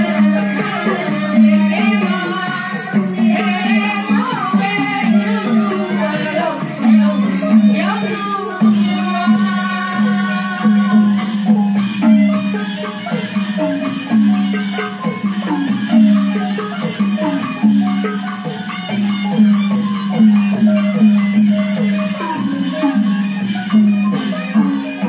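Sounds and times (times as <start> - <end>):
xylophone-like melody: 0.0 - 25.0.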